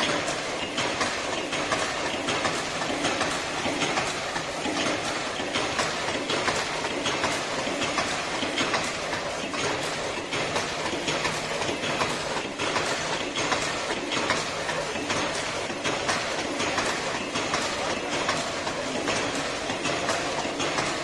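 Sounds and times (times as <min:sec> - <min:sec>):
machine clattering with rapid clicks: 0:00.0 - 0:21.0.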